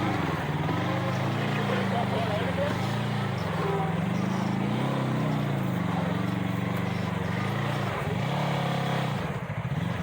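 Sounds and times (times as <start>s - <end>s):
utility vehicle engine running: 0.0s - 10.0s.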